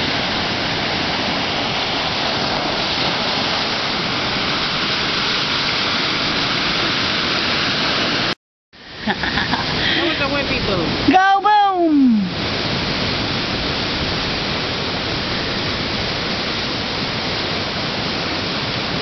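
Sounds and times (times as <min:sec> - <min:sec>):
ocean waves breaking on beach: 0:00.0 - 0:19.0.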